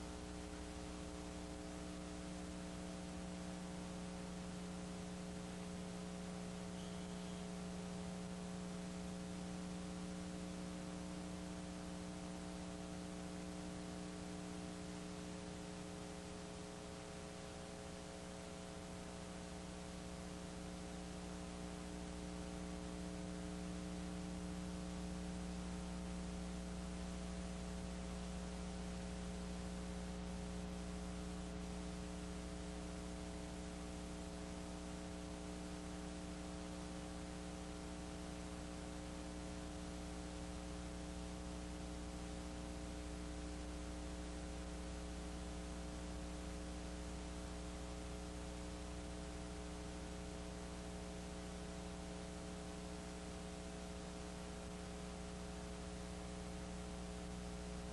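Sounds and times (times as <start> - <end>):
electrical mains hum with hiss: 0.0 - 57.9.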